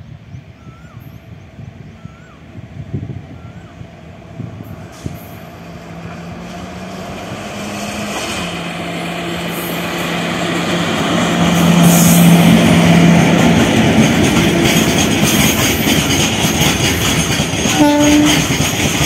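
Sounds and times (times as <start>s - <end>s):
electric locomotive humming: 0.0s - 19.0s
freight train rumbling: 0.0s - 19.0s.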